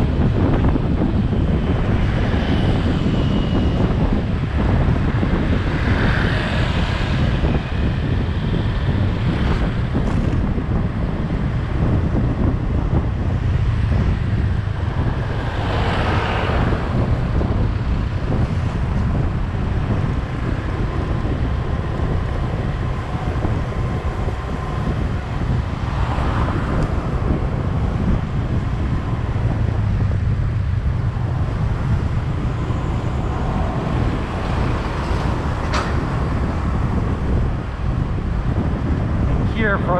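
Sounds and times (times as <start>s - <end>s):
vehicle road and engine rumble: 0.0s - 39.9s
vehicles passing: 0.0s - 39.9s
wind on microphone: 0.0s - 39.9s.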